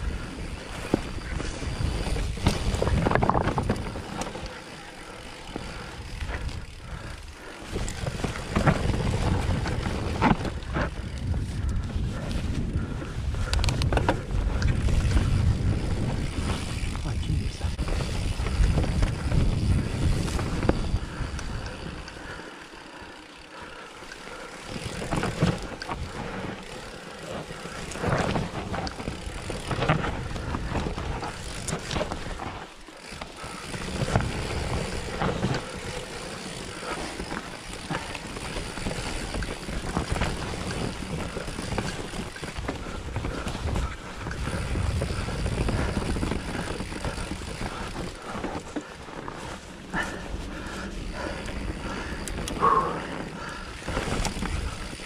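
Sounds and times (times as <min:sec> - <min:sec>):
wind buffeting microphone: 0:00.0 - 0:04.5, 0:05.2 - 0:22.4, 0:24.6 - 0:55.0
bike rattling over bumps: 0:00.0 - 0:55.0
bike tyres rolling over dirt: 0:00.0 - 0:55.0.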